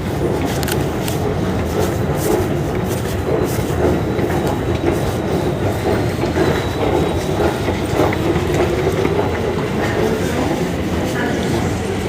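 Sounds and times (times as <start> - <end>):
high train whine: 0.0 - 12.0
underground train rumbling on rails: 0.0 - 12.0.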